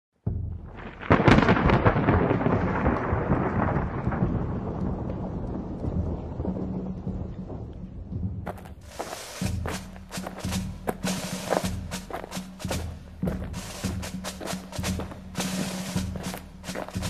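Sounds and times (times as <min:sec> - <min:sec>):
rolling thunder rumble: 0:00.3 - 0:17.0.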